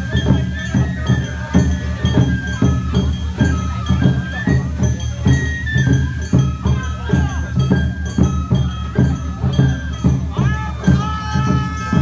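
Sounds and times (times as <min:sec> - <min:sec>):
high flute melody: 0:00.0 - 0:12.0
jingling percussion: 0:00.0 - 0:12.0
steady drum beats: 0:00.0 - 0:12.0.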